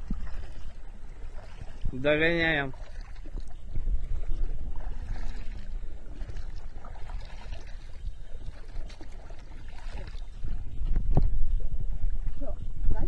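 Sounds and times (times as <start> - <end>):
water dripping off paddles: 0.0 - 11.3
paddles splashing in water: 0.0 - 13.0.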